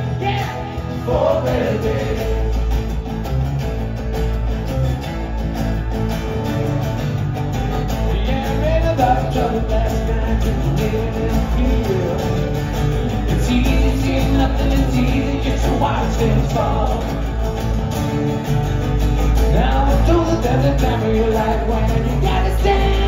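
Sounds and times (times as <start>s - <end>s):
acoustic bass guitar: 0.0s - 23.0s
acoustic guitars: 0.0s - 23.0s.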